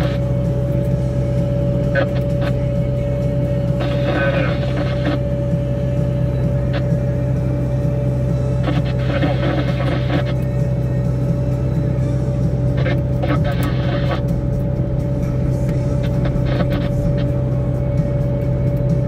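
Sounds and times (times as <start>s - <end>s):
diesel engine drone: 0.0s - 19.0s
steady whine: 0.0s - 19.0s.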